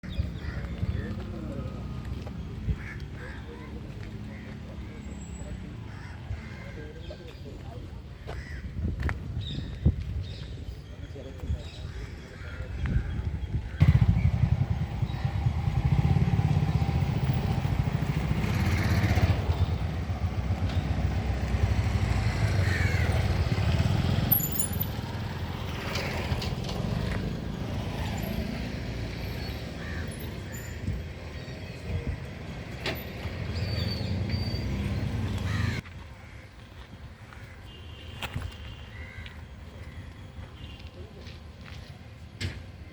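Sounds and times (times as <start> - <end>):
vehicles passing with engine rumble: 0.0 - 42.9.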